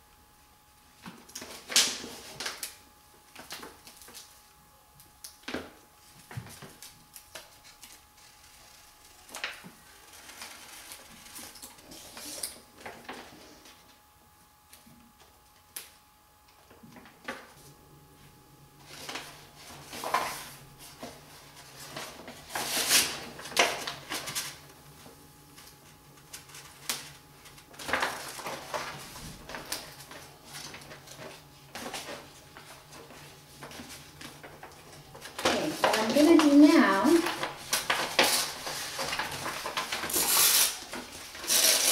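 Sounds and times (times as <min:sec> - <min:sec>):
vinyl sheet rustling and crackling: 0:00.8 - 0:41.9.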